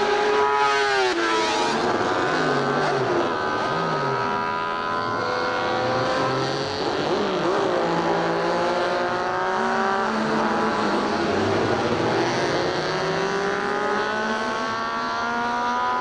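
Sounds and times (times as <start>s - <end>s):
racing motorcycle engine wail: 0.0s - 16.0s.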